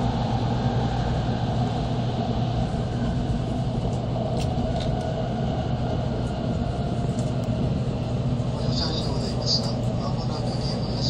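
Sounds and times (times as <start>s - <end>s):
train cabin rumble and hum: 0.0s - 11.0s.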